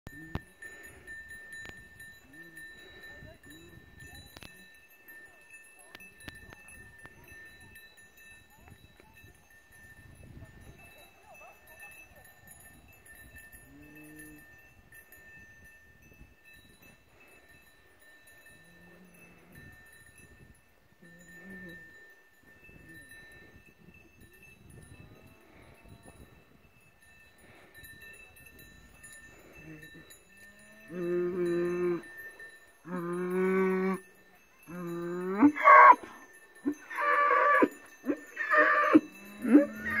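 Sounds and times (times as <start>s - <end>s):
faint cowbell ringing: 0.1s - 40.0s.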